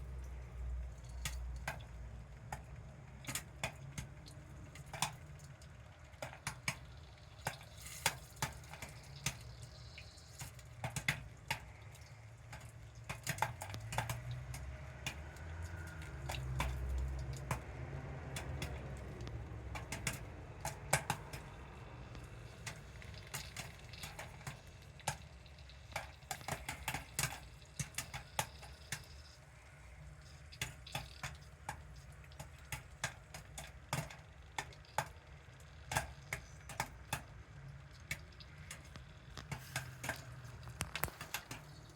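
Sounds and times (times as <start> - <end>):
popcorn popping: 0.1 - 41.9.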